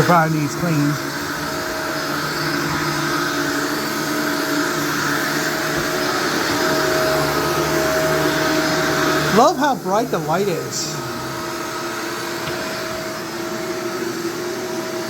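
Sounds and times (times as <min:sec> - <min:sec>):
vacuum cleaner running on carpet: 0:00.0 - 0:15.0.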